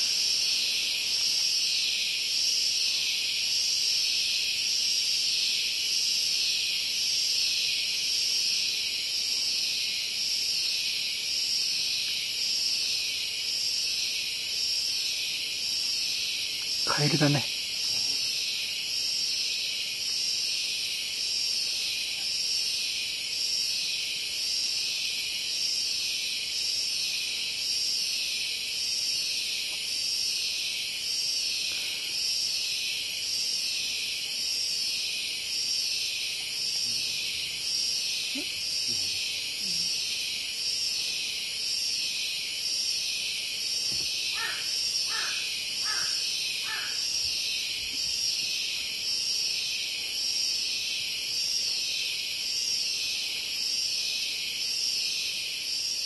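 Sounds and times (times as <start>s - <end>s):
high insect chorus: 0.0s - 56.0s.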